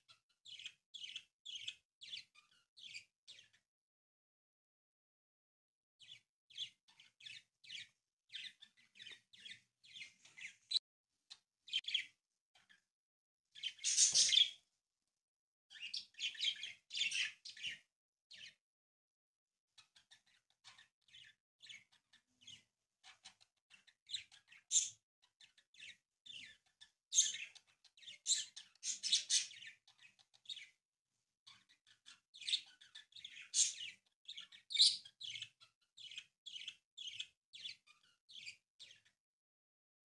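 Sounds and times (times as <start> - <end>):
small birds chirping: 0.0 - 3.7, 6.0 - 12.9, 13.5 - 14.7, 15.7 - 18.6, 19.7 - 30.8, 31.4 - 39.2.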